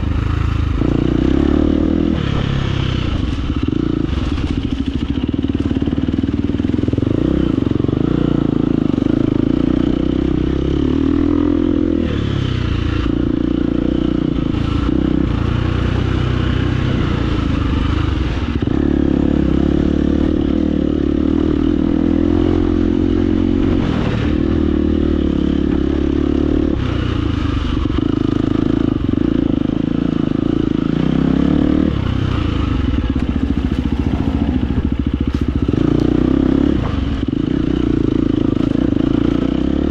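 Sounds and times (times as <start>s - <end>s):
clatter over rough ground: 0.0s - 9.7s, 12.7s - 39.9s
dirt bike engine revving: 0.0s - 39.9s.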